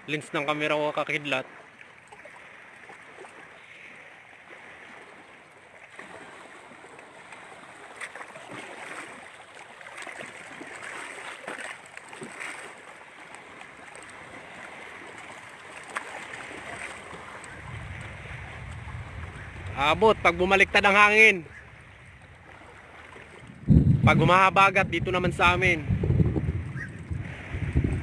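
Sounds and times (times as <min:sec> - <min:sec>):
lake water lapping against shore: 0:00.0 - 0:28.0.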